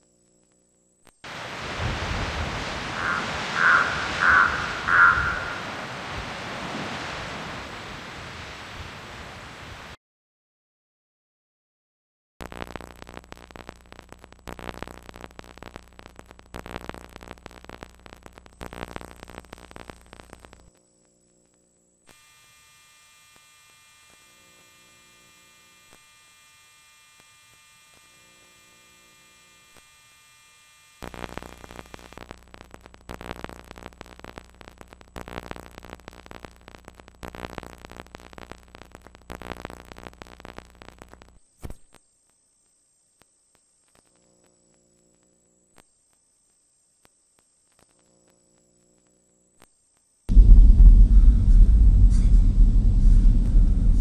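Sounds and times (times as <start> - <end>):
buzzing electronic hum: 0.0 - 8.1, 12.4 - 54.0
crackling static: 0.0 - 10.0, 12.4 - 54.0.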